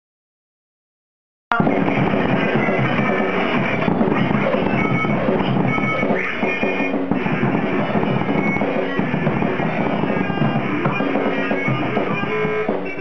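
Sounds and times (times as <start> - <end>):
drum kit hit busily: 1.5 - 13.0
live band playing: 1.5 - 13.0.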